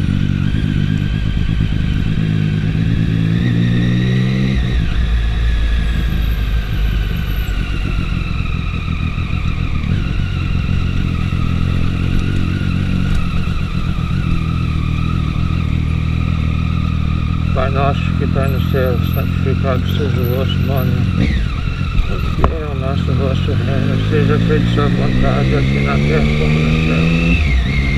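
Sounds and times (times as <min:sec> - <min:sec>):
high engine whine: 0:00.0 - 0:27.9
motorcycle engine revving: 0:00.0 - 0:27.9.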